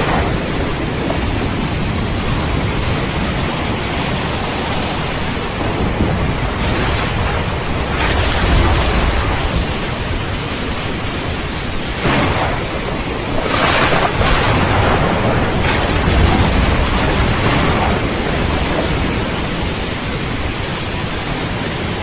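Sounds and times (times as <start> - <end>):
heavy rain: 0.0 - 22.0
rolling thunder: 0.0 - 22.0.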